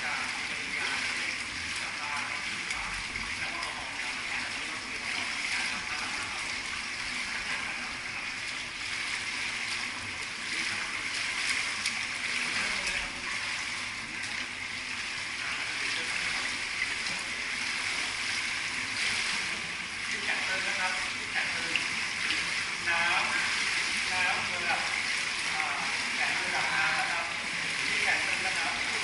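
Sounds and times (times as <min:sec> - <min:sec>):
people wading splashing: 0:00.0 - 0:29.0
running water rushing: 0:00.0 - 0:29.0.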